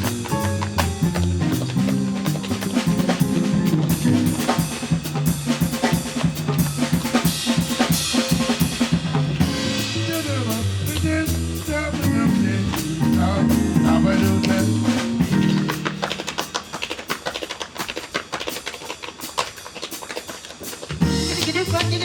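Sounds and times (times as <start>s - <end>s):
instrumental jazz band music: 0.0s - 22.0s.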